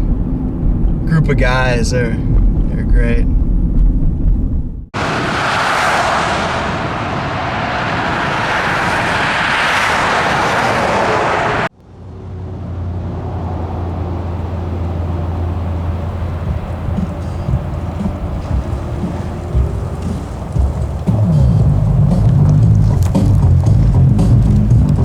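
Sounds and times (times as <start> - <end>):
car rushing noise: 0.0 - 25.0
low engine hum: 0.0 - 25.0
road or wind noise: 0.0 - 25.0.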